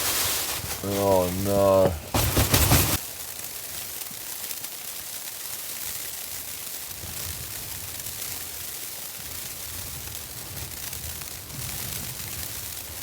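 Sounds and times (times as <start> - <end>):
snow and ice pelting tent fabric: 0.0 - 13.0.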